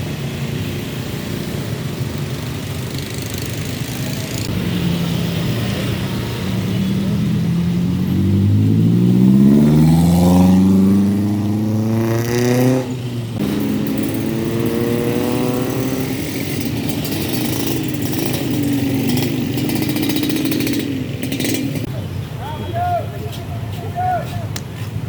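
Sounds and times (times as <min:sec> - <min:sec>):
vehicle engine accelerating: 0:01.5 - 0:21.9.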